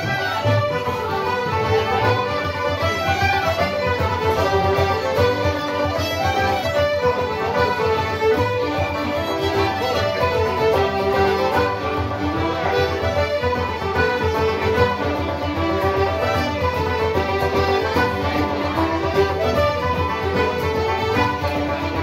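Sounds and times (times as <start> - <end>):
fiddle playing a tune: 0.0 - 22.0.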